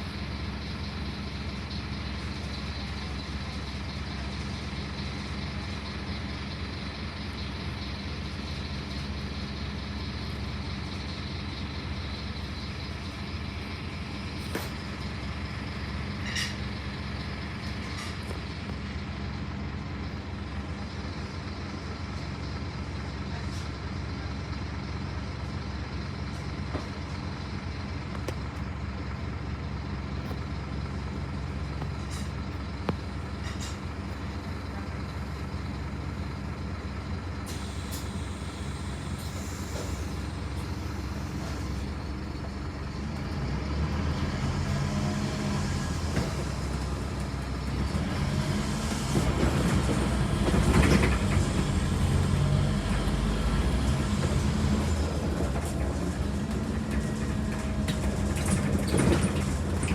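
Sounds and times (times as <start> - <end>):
bus body rattles and clicks: 0.0 - 59.9
bus diesel engine humming: 0.0 - 59.9.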